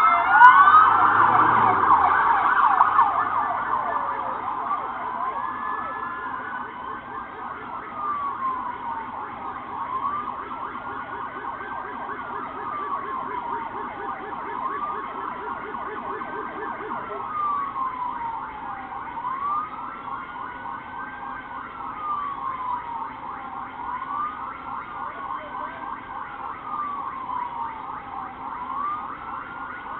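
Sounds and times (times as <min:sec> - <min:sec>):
police siren wailing: 0:00.0 - 0:29.9.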